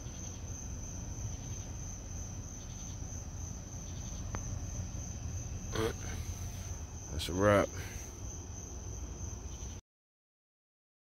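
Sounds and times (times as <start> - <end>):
crickets chirping: 0.0 - 9.8
low steady rumble: 0.0 - 9.8.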